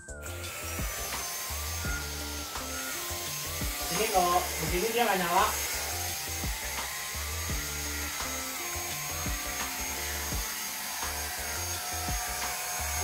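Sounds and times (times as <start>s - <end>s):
background music with bass line: 0.0s - 13.0s
handheld vacuum motor whine: 0.0s - 13.0s.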